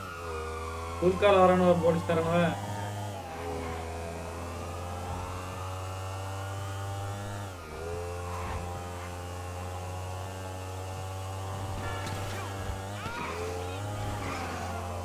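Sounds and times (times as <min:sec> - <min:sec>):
constant low hum: 0:00.0 - 0:15.0
motorcycle engine running: 0:00.0 - 0:15.0.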